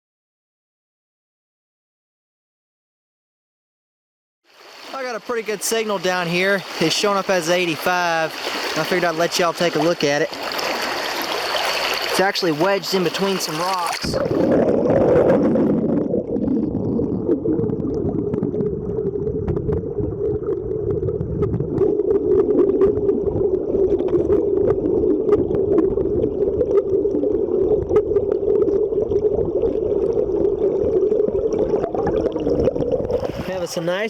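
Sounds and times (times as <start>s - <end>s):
muffled underwater river current: 4.5s - 34.0s.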